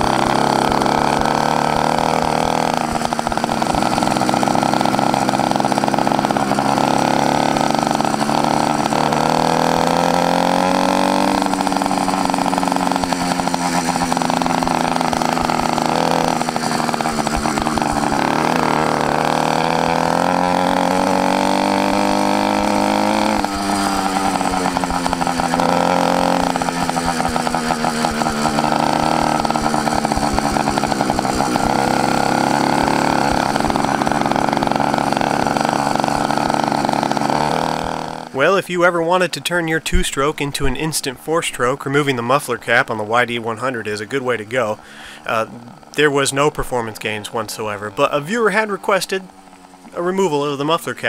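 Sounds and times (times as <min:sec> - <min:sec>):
two-stroke engine revving loudly: 0:00.0 - 0:51.0.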